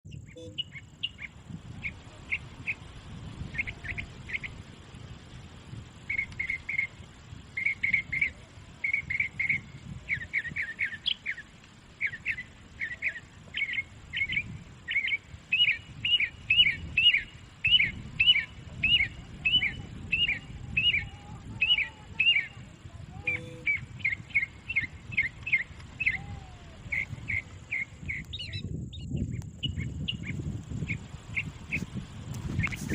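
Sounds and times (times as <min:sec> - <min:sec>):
bird chirping: 0:00.1 - 0:04.6, 0:06.0 - 0:31.9, 0:32.5 - 0:32.9.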